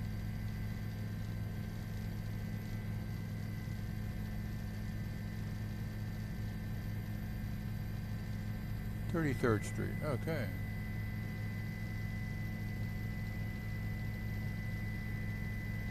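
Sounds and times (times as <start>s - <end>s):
faint steady whine: 0.0s - 15.9s
helicopter cabin drone and hiss: 0.0s - 15.9s.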